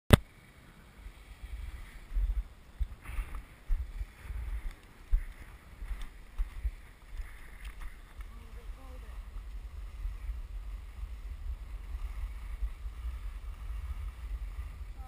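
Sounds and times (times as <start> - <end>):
skis sliding on packed snow: 0.4 - 15.0
wind buffeting microphone: 0.9 - 15.0.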